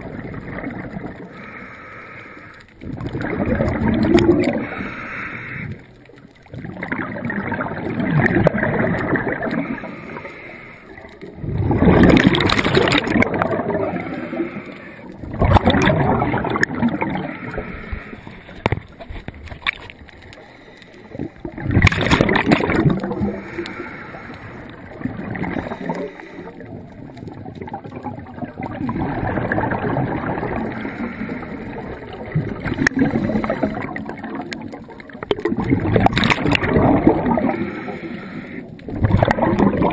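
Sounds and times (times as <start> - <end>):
exhaled bubbles rushing underwater: 0.0 - 1.6, 2.7 - 39.9
regulator hissing and bubbling: 0.0 - 19.3, 20.1 - 39.9.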